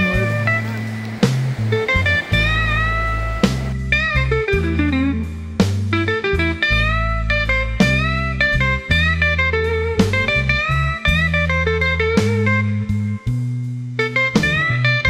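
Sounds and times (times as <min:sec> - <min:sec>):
bass line: 0:00.0 - 0:15.0
guitar instrumental: 0:00.0 - 0:15.0.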